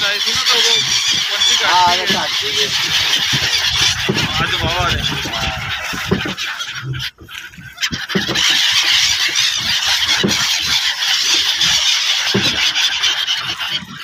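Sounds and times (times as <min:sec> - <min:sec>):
gulls squealing calls: 0:00.0 - 0:14.0.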